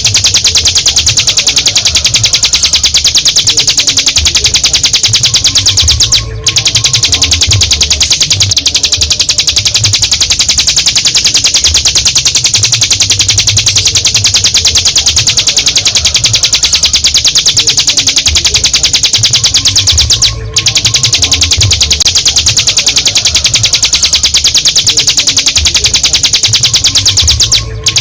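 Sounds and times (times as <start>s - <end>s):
bird rattling trill: 0.0s - 28.0s.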